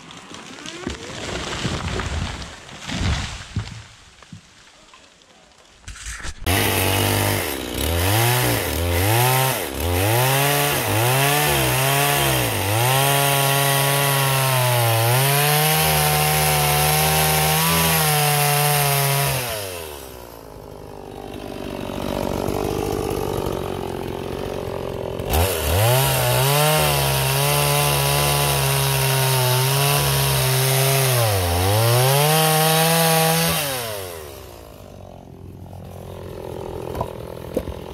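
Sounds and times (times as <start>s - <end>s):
chainsaw cutting log: 0.0s - 4.6s, 5.8s - 37.9s.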